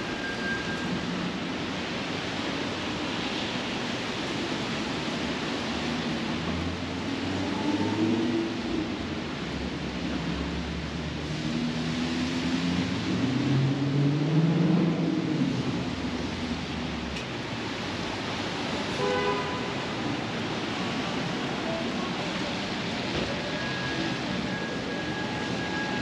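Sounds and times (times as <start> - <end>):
city street traffic: 0.0 - 26.0
rain hiss: 0.0 - 26.0.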